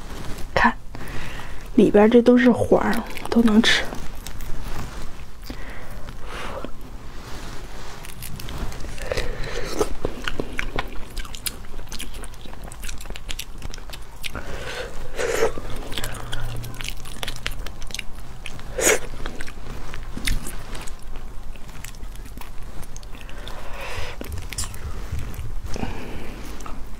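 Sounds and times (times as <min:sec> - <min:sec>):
chewing: 0:02.5 - 0:06.8, 0:07.6 - 0:26.9
starfish arm crunching and crackling: 0:02.8 - 0:05.4, 0:07.6 - 0:26.9.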